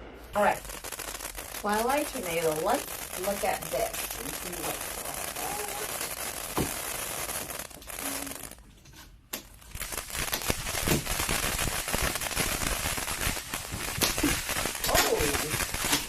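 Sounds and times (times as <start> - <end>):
packaging crinkling and rustling: 0.4 - 16.0.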